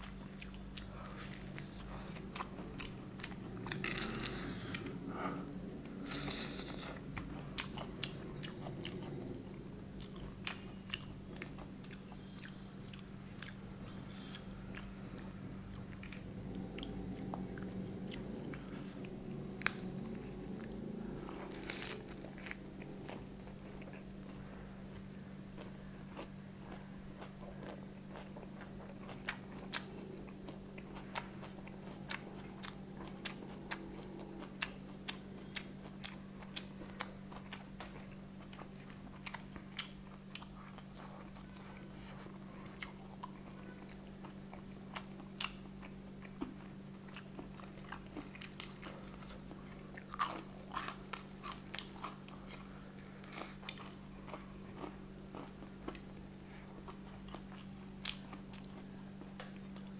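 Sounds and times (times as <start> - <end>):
person chewing crunchy food: 0.0 - 59.9
steady low hum: 0.0 - 59.9.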